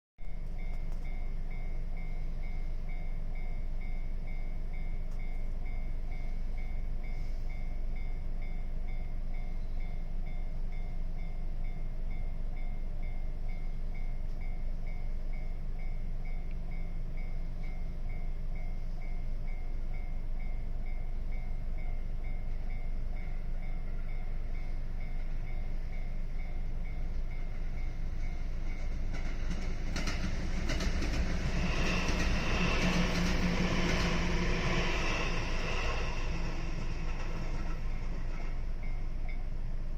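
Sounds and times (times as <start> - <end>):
train rumble and clatter: 0.2 - 39.9.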